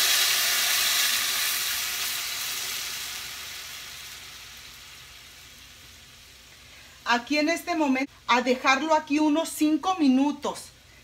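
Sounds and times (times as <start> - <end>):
sauce sizzling in hot oil: 0.0 - 8.9.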